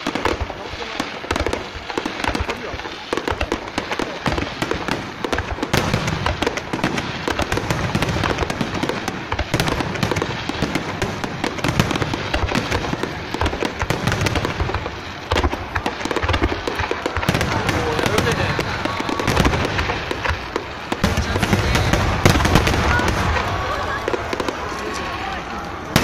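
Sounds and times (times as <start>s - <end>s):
firework shells bursting: 0.0s - 26.0s.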